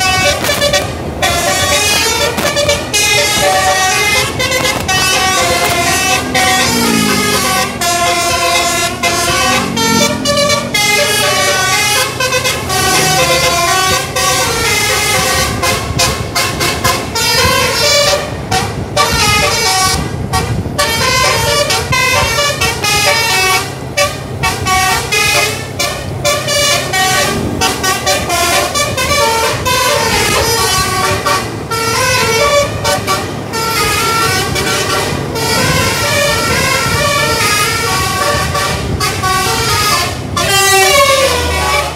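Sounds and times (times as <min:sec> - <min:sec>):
bus engine running: 0:00.0 - 0:41.9
multi-tone air horn melody: 0:00.0 - 0:41.9.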